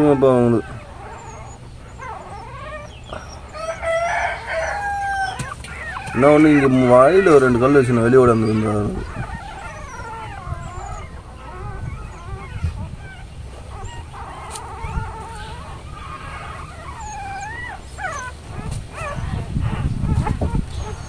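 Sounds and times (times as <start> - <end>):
puppies whimpering and squeaking: 0.0 - 21.0.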